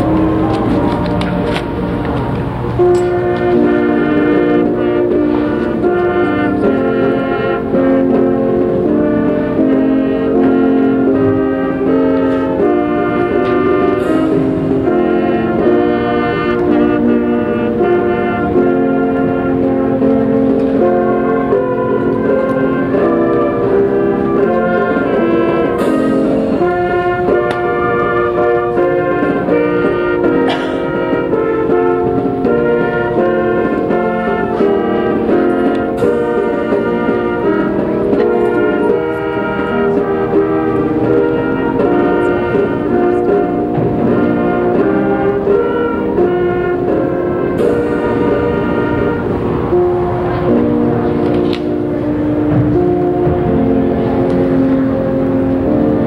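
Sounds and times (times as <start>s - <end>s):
brass ensemble playing chords: 0.0s - 56.0s.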